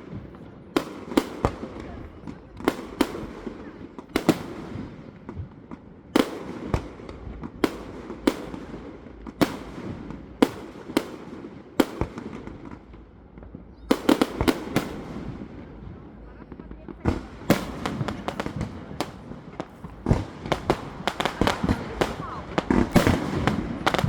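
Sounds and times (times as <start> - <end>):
fireworks bursting with bangs: 0.0 - 24.0
fireworks crackling: 0.0 - 24.0.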